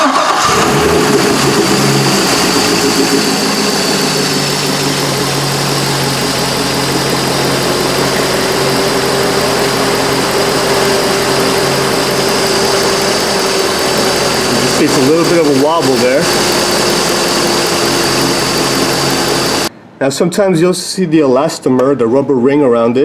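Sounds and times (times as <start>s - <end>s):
car engine idling: 0.0s - 19.7s.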